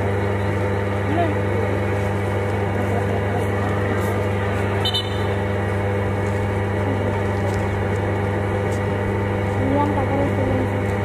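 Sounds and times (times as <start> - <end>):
loudspeaker electrical hum: 0.0 - 11.0.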